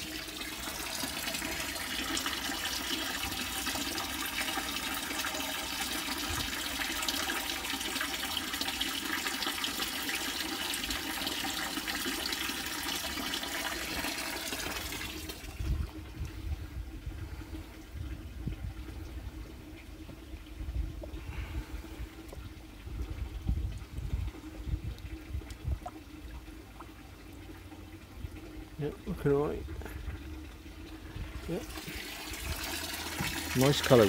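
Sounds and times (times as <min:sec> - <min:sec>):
water splashing into fish tank: 0:00.0 - 0:16.7, 0:17.4 - 0:34.0.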